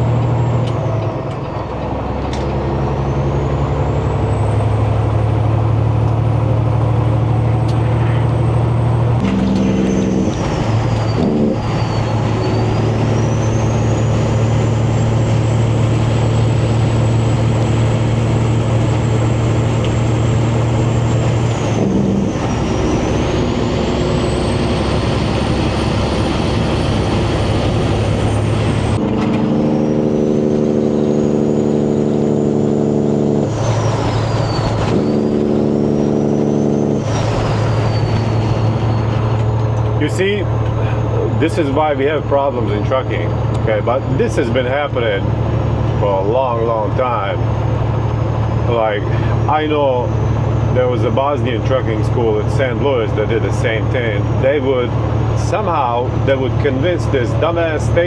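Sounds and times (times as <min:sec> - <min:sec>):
truck diesel engine under load: 0:00.0 - 0:58.0.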